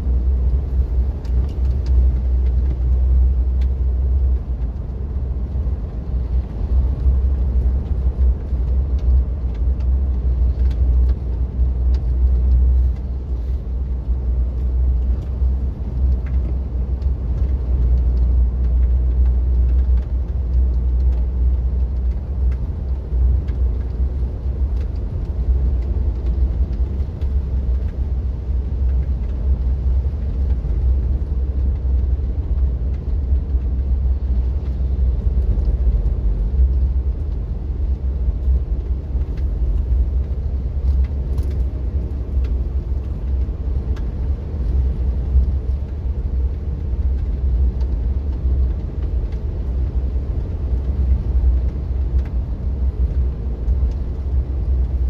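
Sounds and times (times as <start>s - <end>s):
car interior road rumble: 0.0s - 55.0s.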